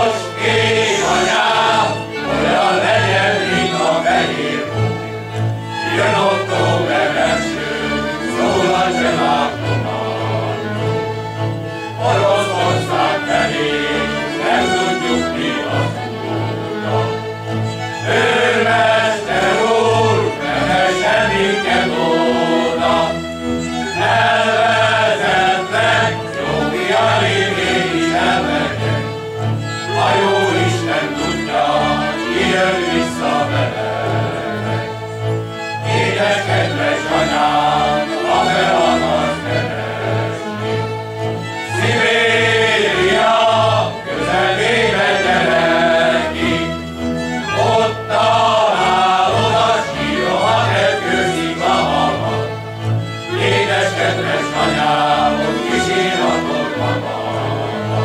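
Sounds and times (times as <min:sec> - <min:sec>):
fiddles: 0:00.0 - 0:58.0
men's choir singing: 0:00.0 - 0:58.0.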